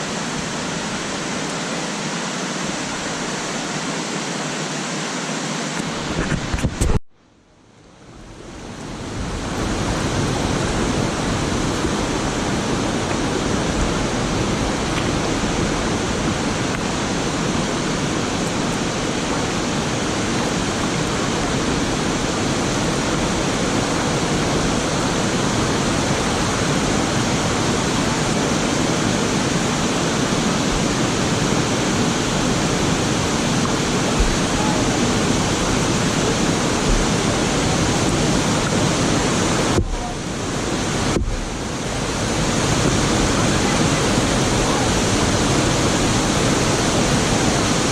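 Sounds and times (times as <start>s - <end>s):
waterfall rushing: 0.0s - 6.9s, 7.9s - 47.9s.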